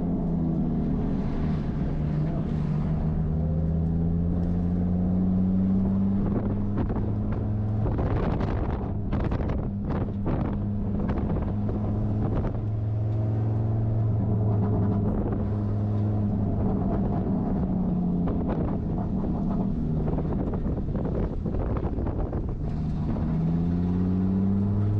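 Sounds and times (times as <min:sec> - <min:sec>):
car engine running: 0:00.0 - 0:24.9
road noise: 0:00.0 - 0:24.9
wind on microphone: 0:00.9 - 0:24.9.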